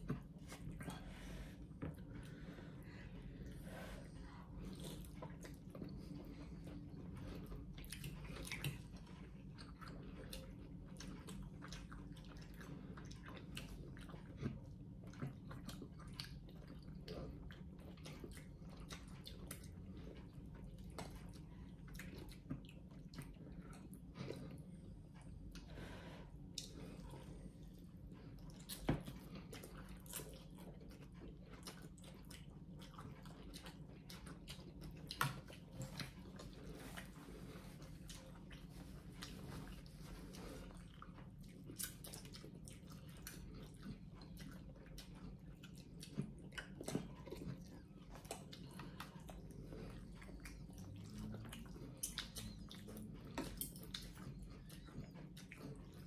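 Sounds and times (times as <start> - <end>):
people slurping and chewing noodles: 0.0 - 56.0.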